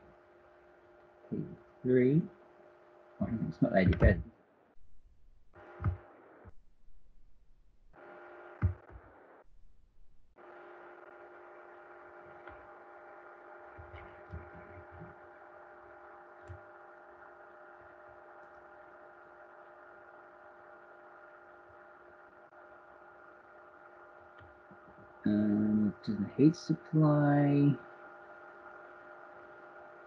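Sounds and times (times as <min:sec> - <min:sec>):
faint electrical hum: 0:00.0 - 0:30.0.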